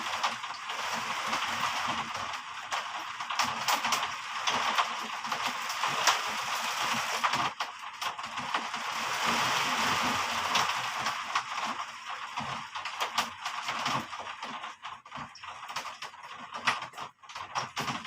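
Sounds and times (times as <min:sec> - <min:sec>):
heavy rain with drop impacts: 0:00.0 - 0:18.0.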